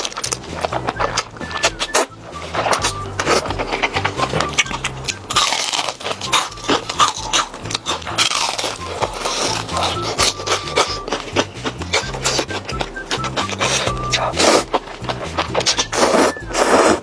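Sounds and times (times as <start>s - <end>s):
background music with bass line: 0.0s - 17.0s
crunching and biting food: 0.0s - 17.0s.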